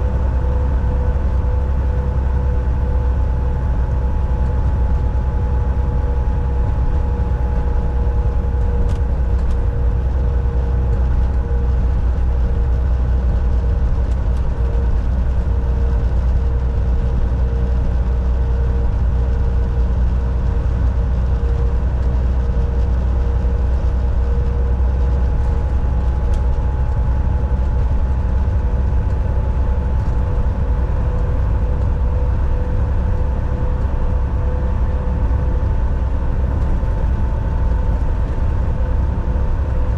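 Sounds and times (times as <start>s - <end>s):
constant whine: 0.0s - 39.9s
truck engine and road rumble: 0.0s - 39.9s.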